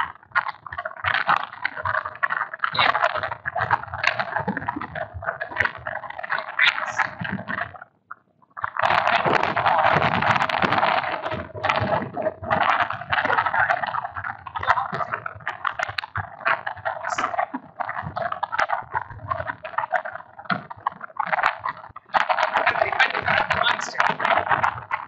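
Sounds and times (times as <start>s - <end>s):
stylus scratching on tablet: 0.5s - 7.5s, 8.7s - 25.0s.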